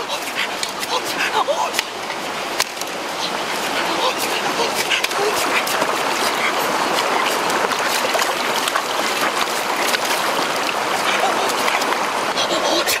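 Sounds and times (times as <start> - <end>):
stream water over rocks: 0.0 - 13.0.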